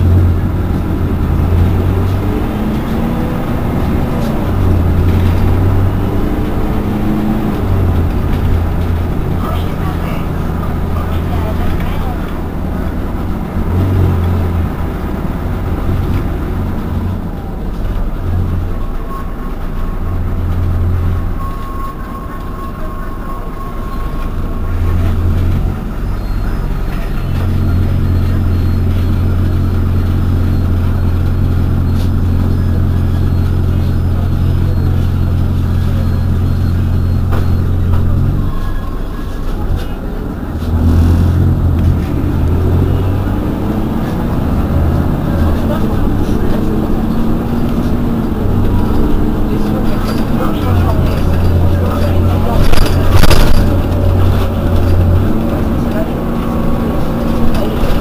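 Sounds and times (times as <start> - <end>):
bus engine idling: 0.0 - 58.0.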